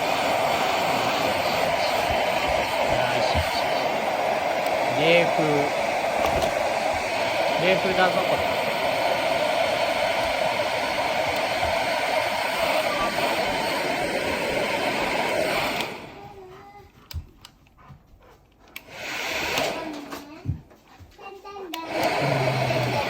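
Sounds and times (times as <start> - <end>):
hair dryer blowing: 0.0 - 17.4, 18.8 - 20.6, 21.7 - 23.0.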